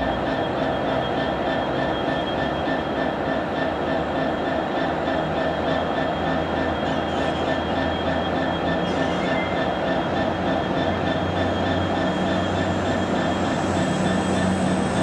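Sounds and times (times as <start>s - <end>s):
locomotive engine drone: 0.0s - 15.0s
train wheels on rails: 0.0s - 15.0s.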